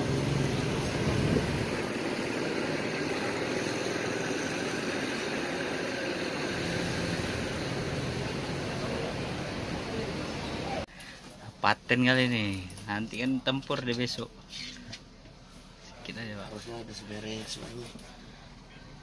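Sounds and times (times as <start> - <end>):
vehicle engines and traffic hum: 0.0 - 19.0.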